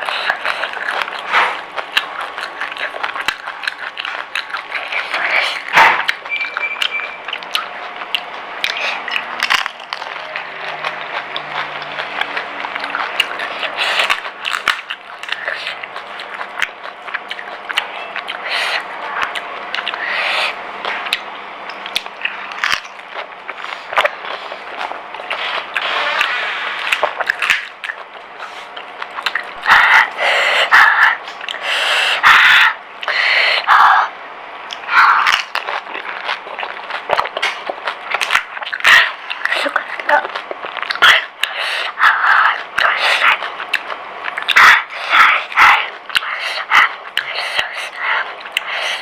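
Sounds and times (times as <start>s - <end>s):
crisp shells crunching while chewed: 0.0s - 33.9s, 34.6s - 49.0s.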